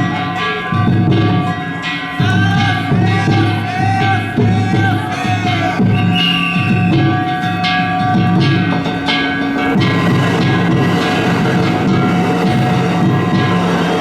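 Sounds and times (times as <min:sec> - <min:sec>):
hand gongs clanging: 0:00.0 - 0:14.0
taiko drum beating: 0:00.0 - 0:14.0
wavering held melody: 0:00.0 - 0:14.0.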